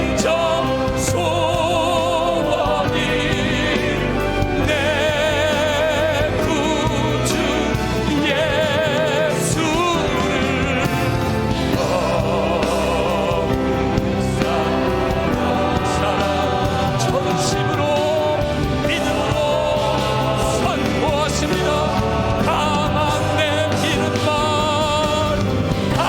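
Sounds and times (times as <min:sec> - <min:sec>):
voices singing: 0:00.0 - 0:26.0
worship band playing: 0:00.0 - 0:26.0.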